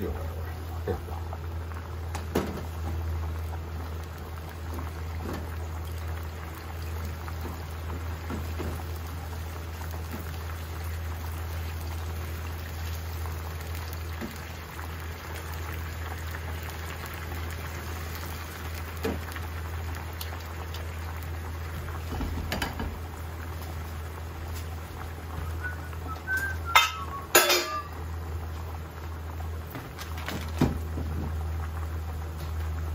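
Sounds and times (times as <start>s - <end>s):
water boiling in a pot: 0.0s - 32.9s.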